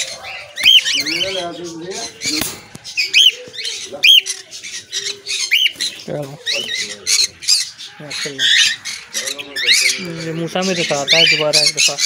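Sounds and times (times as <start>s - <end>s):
cockatiels squawking: 0.0s - 12.0s.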